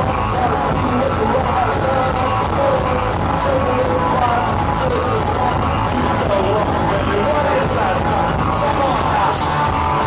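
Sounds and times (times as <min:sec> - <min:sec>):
psychobilly band playing: 0:00.0 - 0:10.0.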